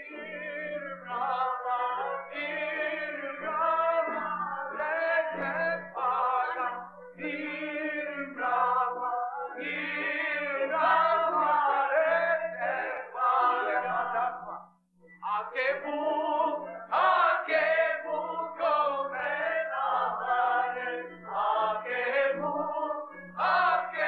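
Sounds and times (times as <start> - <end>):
group of voices singing: 0.0 - 14.6, 15.2 - 24.0.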